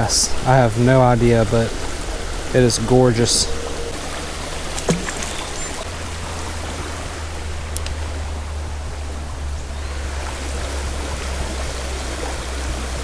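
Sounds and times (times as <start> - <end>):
flowing creek water: 0.0 - 13.0
low rumble: 0.0 - 13.0.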